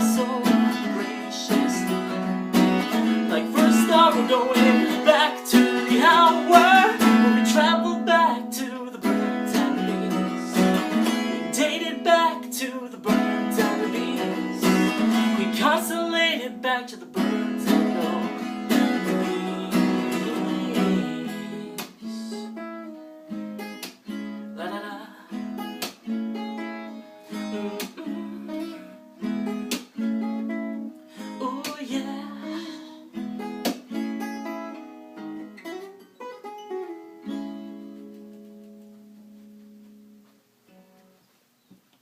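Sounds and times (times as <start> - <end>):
acoustic guitar playing chords: 0.0 - 41.2.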